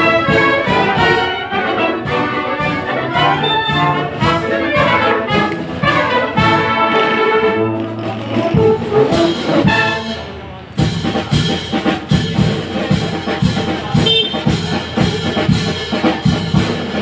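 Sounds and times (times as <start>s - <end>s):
wind band playing chords: 0.0s - 17.0s.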